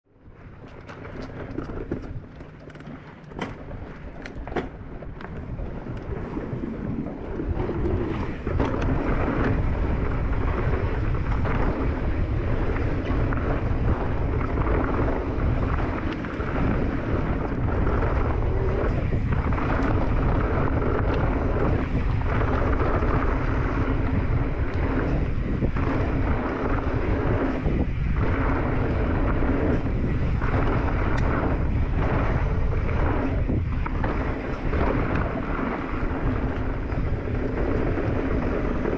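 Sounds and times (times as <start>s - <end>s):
bike riding rumble: 0.1s - 38.9s
wind buffeting microphone: 0.1s - 38.9s.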